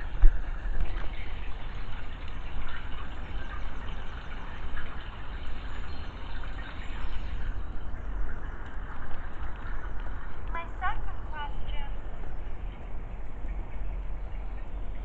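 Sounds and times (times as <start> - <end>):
spring water trickling: 0.0 - 15.0.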